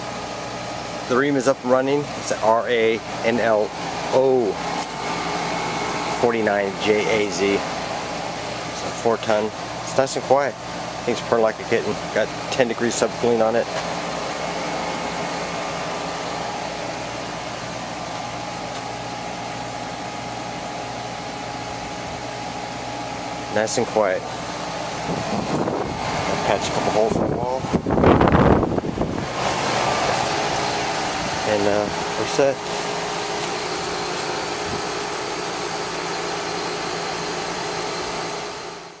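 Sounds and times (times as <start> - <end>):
air conditioner running: 0.0 - 39.0.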